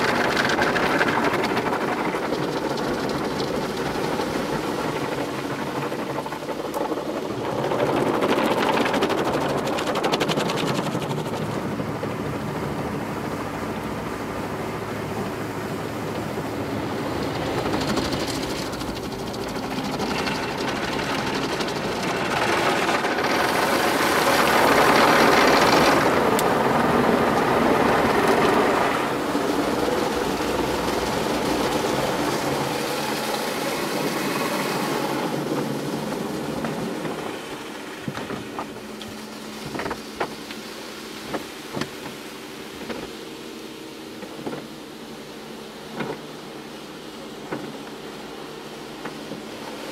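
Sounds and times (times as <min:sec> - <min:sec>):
car wash brushes sweeping: 0:00.0 - 0:48.2
water spraying on car: 0:00.0 - 0:49.9.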